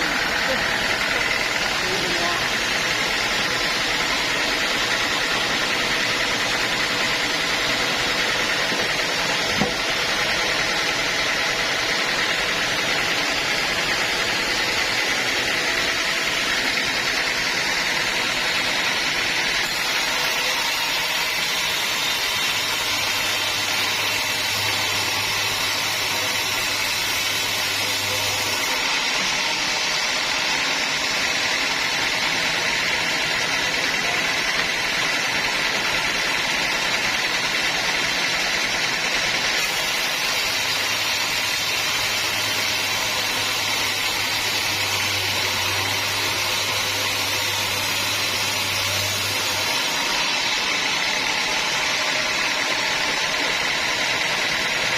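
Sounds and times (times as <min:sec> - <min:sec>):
sawmill machinery whine: 0:00.0 - 0:54.9.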